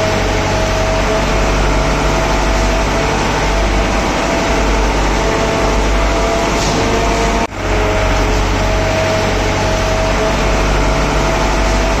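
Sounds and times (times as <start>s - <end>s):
machinery drone: 0.0s - 12.0s
whining machine tones: 0.0s - 12.0s.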